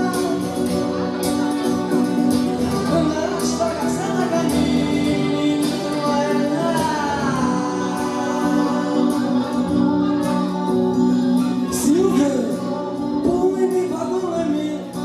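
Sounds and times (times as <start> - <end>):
man singing into a microphone: 0.0 - 15.0
strummed acoustic guitar: 0.0 - 15.0.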